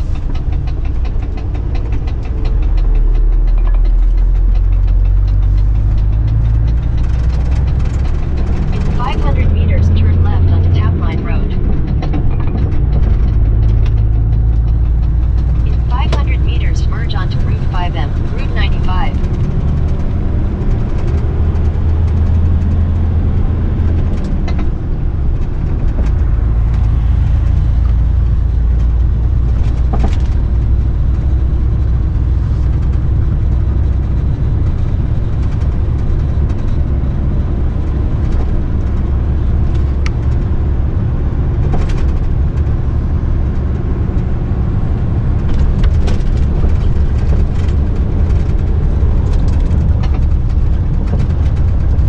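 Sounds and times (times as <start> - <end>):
truck diesel engine drone: 0.0 - 52.0.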